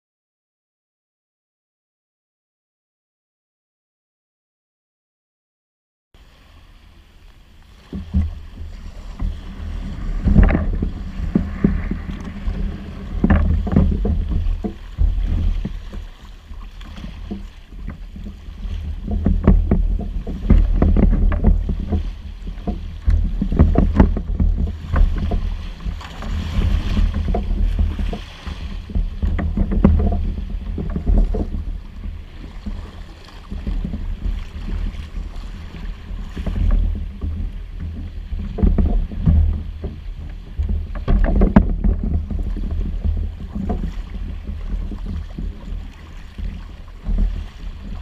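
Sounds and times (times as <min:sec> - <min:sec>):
paddle strokes in water: 0:06.2 - 0:48.0
waves lapping against a hull: 0:06.2 - 0:48.0
wind rumbling on microphone: 0:06.2 - 0:48.0.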